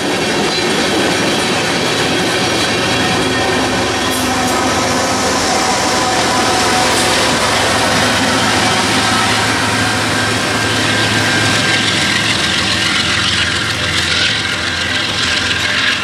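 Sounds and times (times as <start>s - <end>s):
diesel locomotive engines: 0.0s - 16.0s
train wheel and rail noise: 0.0s - 16.0s.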